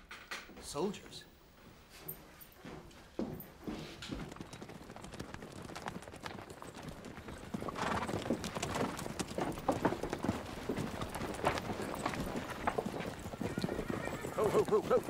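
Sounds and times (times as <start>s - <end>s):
horse hoofbeats on dirt: 2.2s - 15.0s.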